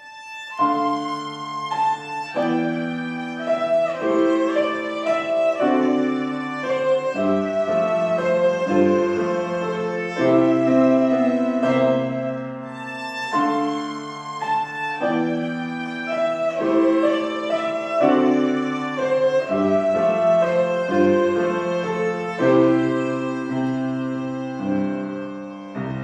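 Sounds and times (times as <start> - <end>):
piano accompaniment: 0.0 - 26.0
violin melody: 0.0 - 26.0.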